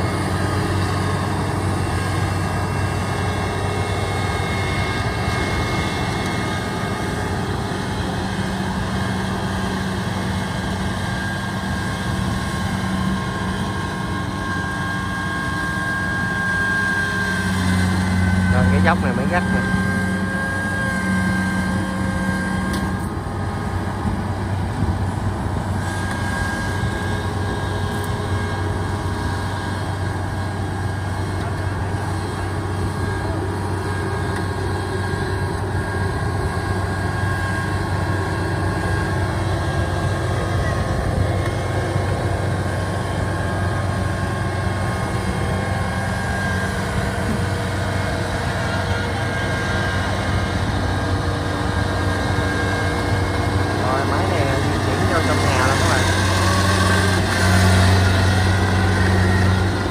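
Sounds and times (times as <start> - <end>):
diesel engine drone: 0.0 - 59.9
high whine: 0.0 - 59.9.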